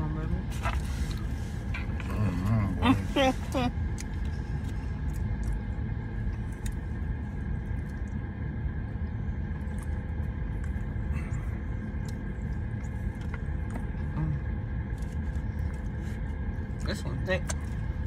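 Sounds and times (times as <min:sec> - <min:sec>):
car idling: 0:00.0 - 0:18.0.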